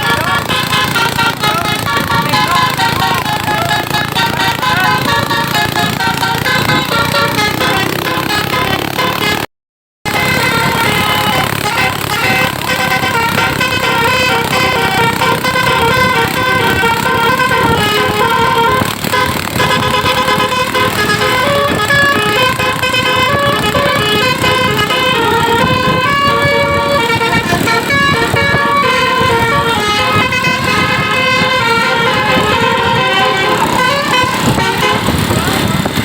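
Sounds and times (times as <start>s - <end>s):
multi-trumpet air horn melody: 0.0s - 9.5s, 10.1s - 36.0s
vehicle noise: 0.0s - 9.5s, 10.1s - 36.0s.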